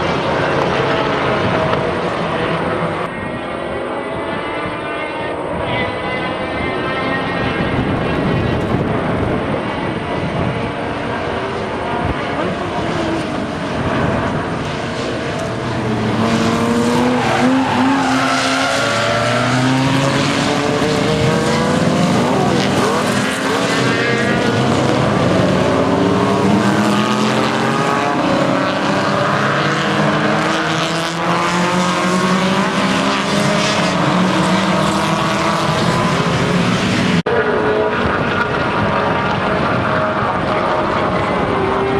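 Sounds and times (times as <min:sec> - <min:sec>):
racing cars passing at full throttle: 0:00.0 - 0:41.9.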